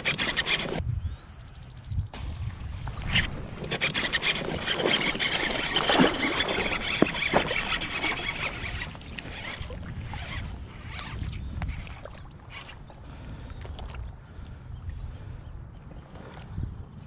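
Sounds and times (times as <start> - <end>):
water sloshing and splashing: 2.2 - 15.1, 15.8 - 17.0.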